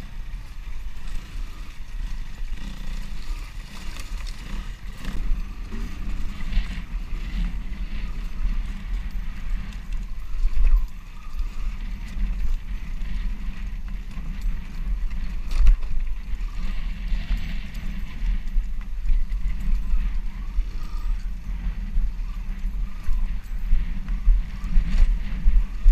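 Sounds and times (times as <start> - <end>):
dirt bike engine running: 0.0 - 25.9
wind buffeting on helmet: 0.0 - 25.9.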